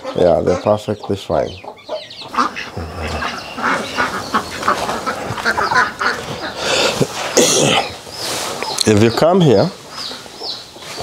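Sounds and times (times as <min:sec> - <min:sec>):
ducklings cheeping and quacking: 0:00.0 - 0:11.0.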